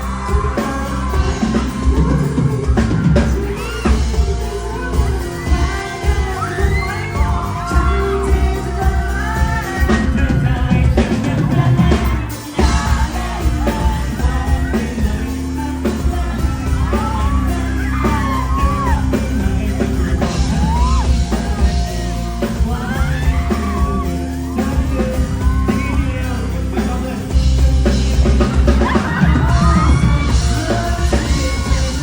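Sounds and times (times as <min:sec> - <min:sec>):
person singing: 0:00.0 - 0:32.0
pop-rock band playing: 0:00.0 - 0:32.0.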